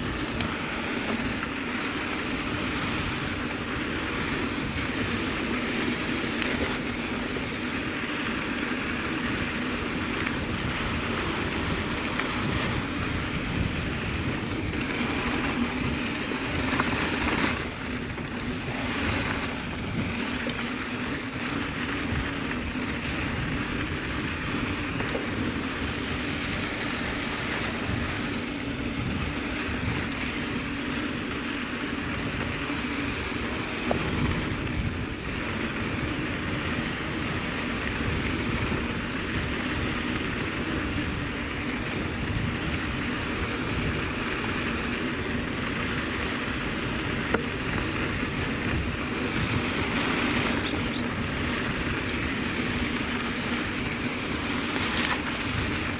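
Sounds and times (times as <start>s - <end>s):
bike tyres on dirt: 0.0s - 55.9s
wind rushing over microphone: 0.0s - 55.9s.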